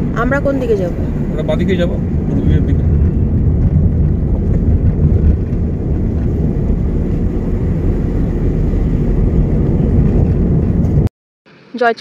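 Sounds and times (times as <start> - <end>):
car engine rumble from inside: 0.0 - 11.1
tyre road noise: 0.0 - 12.0.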